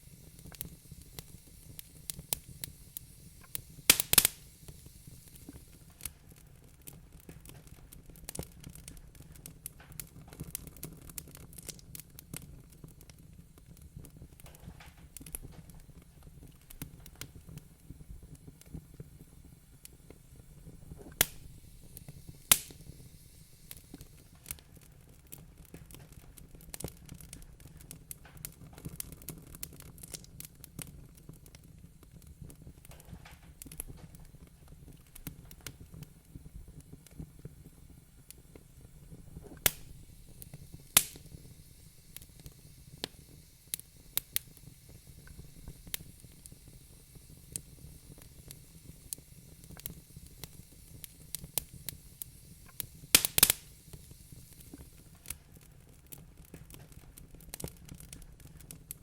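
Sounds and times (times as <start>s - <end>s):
fire pops: 0.0s - 59.0s
wood fire crackling: 0.0s - 59.0s.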